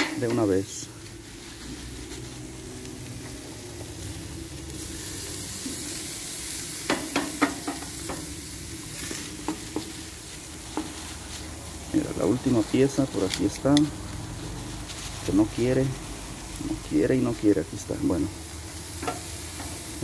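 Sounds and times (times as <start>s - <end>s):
meat sizzling on a grill: 0.0s - 20.0s.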